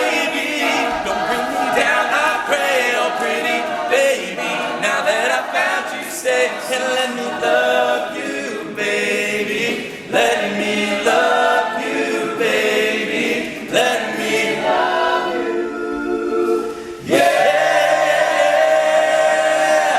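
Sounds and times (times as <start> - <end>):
male vocal group singing harmony: 0.0 - 19.9.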